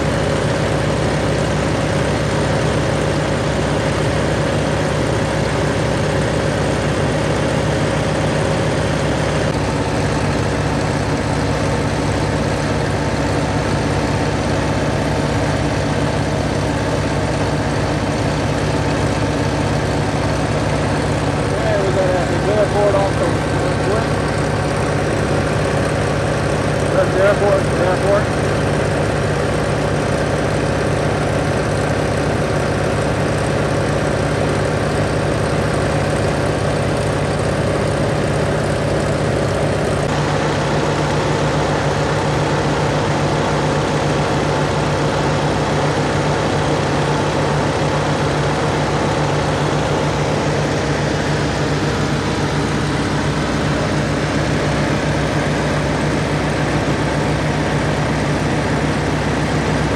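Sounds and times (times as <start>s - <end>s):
aircraft engine droning: 0.0s - 59.9s.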